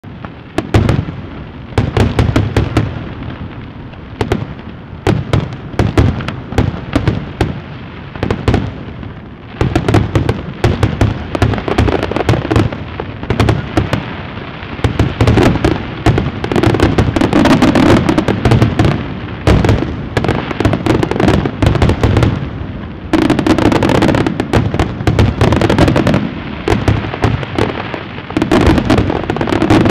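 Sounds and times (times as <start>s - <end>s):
fireworks bursting and crackling: 0.0s - 29.9s.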